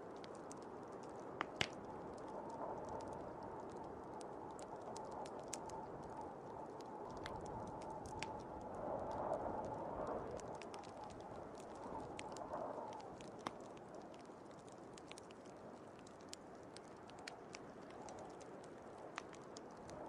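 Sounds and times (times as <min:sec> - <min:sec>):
blizzard wind blowing: 0:00.0 - 0:20.0
fire crackling and popping: 0:00.0 - 0:20.0.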